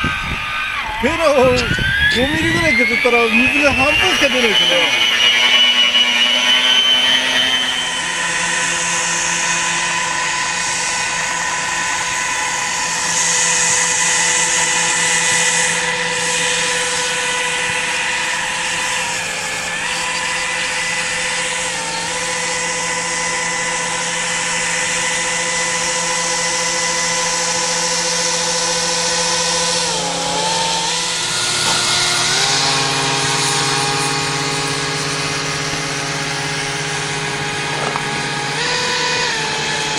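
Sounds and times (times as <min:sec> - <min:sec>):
model boat motor whining: 0:00.0 - 0:39.9.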